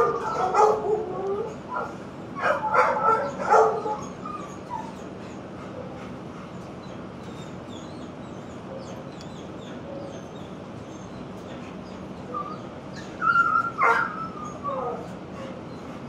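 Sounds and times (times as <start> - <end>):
dogs yelping and barking: 0.0 - 16.0.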